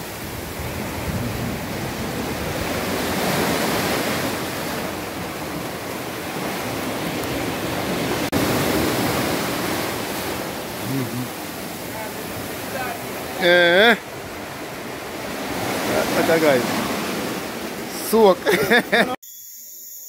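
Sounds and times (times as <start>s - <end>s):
surf washing over rocks: 0.0s - 19.2s.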